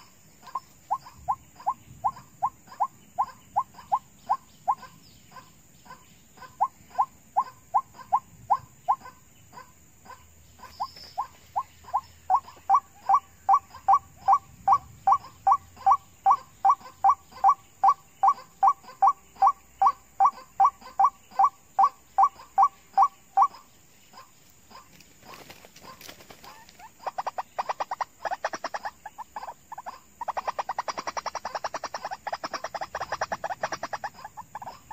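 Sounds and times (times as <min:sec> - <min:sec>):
waterhen calling: 0:00.0 - 0:34.9.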